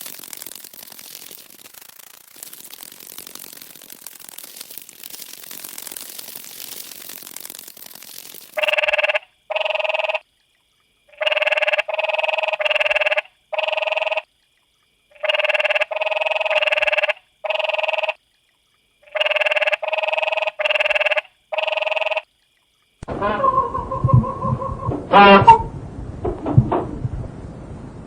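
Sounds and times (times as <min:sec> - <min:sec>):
frog croaking: 0:00.1 - 0:25.6.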